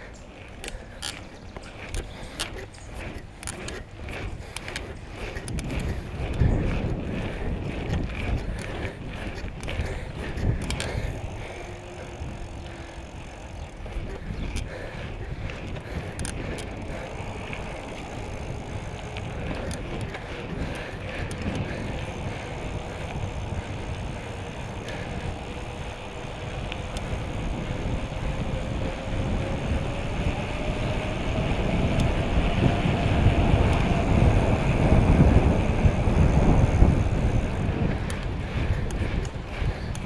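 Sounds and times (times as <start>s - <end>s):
bicycle rolling noise: 0.0s - 40.0s
wind on microphone: 0.0s - 40.0s.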